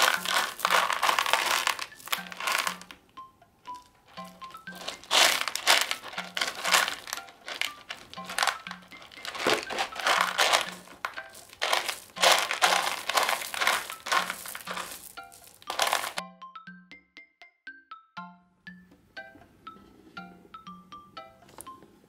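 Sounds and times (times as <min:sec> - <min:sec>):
soft music with plinking notes: 0:00.0 - 0:22.0.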